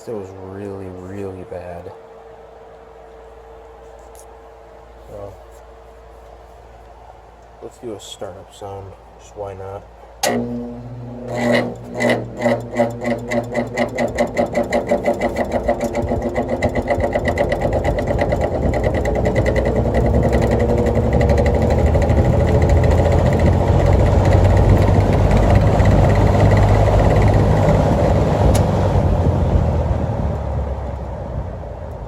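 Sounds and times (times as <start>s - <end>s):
fan motor throbbing and humming: 0.0s - 32.0s.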